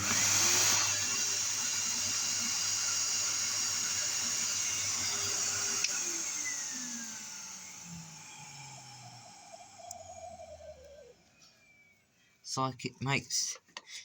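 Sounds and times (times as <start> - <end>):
vacuum cleaner running: 0.0 - 12.0
motor winding down whine: 0.0 - 12.1.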